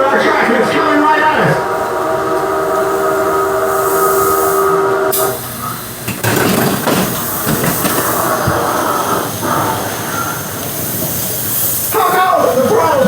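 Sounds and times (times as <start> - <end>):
train horn blaring: 0.0 - 10.7
rushing rumble with hiss: 0.0 - 13.0.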